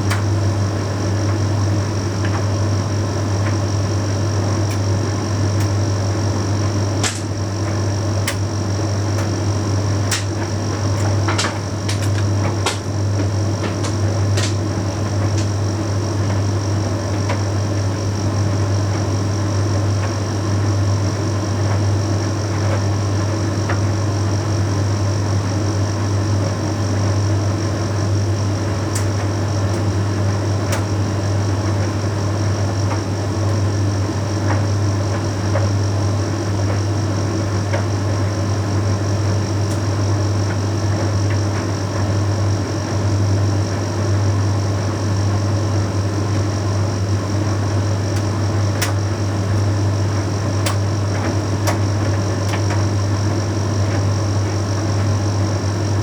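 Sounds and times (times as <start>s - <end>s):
high steady whine: 0.0s - 25.2s, 25.9s - 56.0s
tumble dryer low hum: 0.0s - 56.0s.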